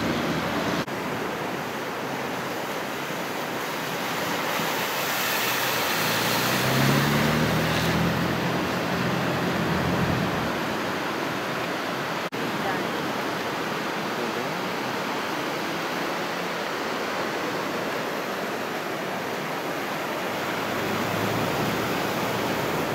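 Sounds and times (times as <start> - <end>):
car engine driving through water: 0.0 - 22.9
surf washing ashore: 0.0 - 22.9
wind: 0.0 - 22.9.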